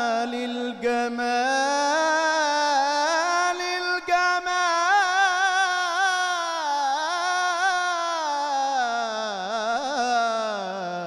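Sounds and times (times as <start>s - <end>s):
man chanting solo into microphone: 0.0s - 11.0s.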